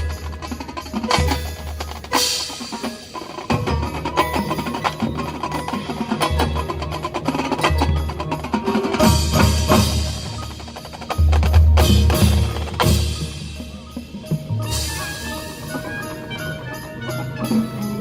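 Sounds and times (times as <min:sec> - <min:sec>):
drum and wood-block hits: 0:00.0 - 0:16.1
ringing mallet and bell tones: 0:00.0 - 0:18.0.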